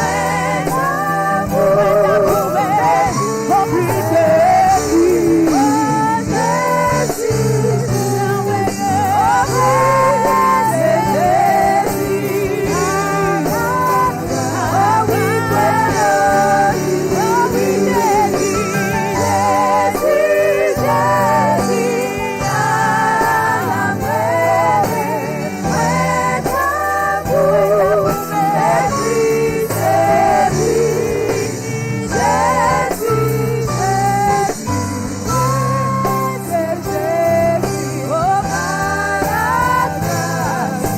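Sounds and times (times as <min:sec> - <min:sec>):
gospel singing with accompaniment: 0:00.0 - 0:40.9
sustained bass notes: 0:00.0 - 0:40.9.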